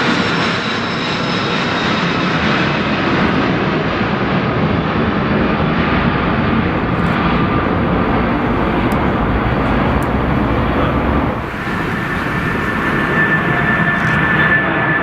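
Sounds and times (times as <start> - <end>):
faint engine whine: 0.0 - 15.0
higher-pitched whine: 0.0 - 15.0
jet engines roaring: 0.0 - 15.0.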